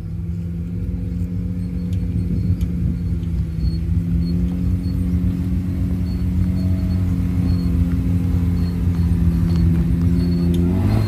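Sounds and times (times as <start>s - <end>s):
vehicle engine running at low speed: 0.0s - 11.0s.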